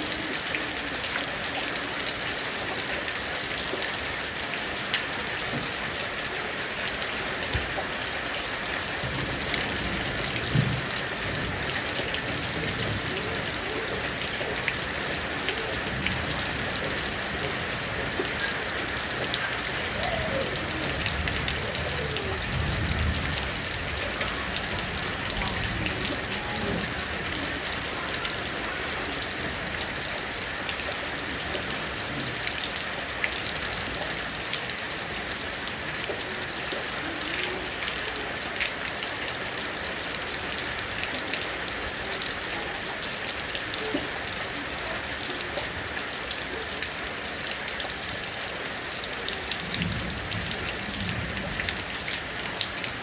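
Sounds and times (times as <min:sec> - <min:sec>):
heavy rain falling: 0:00.0 - 0:53.0
raindrops ticking on surfaces: 0:00.0 - 0:53.0.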